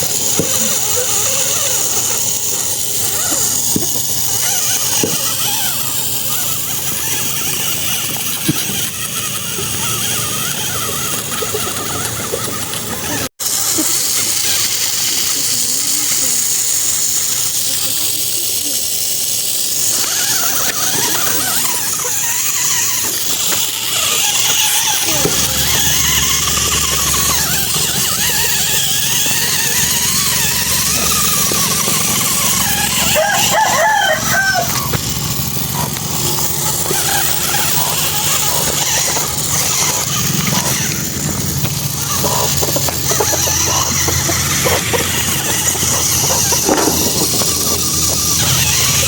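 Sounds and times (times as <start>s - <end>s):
high squeaks: 0.0s - 16.9s, 19.4s - 49.0s
electric motor humming: 0.0s - 49.0s.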